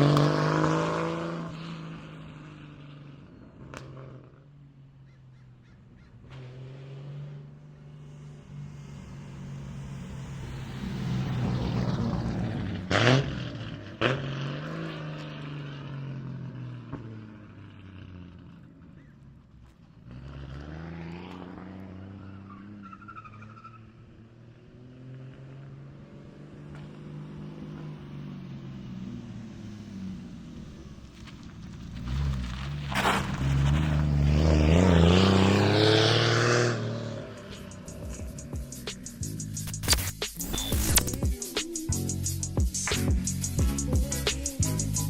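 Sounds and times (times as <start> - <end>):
car engine revving: 0.0 - 4.4, 6.2 - 19.1, 19.9 - 45.0.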